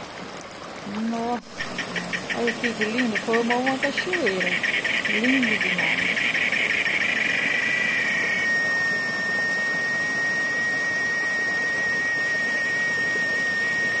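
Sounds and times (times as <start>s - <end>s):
rainwater rushing over roots: 0.0s - 14.0s
high-pitched whine: 1.5s - 14.0s.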